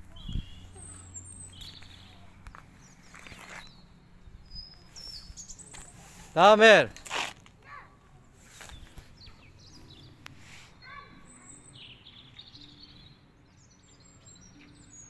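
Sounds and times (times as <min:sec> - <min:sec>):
small birds chirping faintly: 0:00.0 - 0:06.9, 0:07.6 - 0:15.0
low background noise: 0:00.0 - 0:15.0.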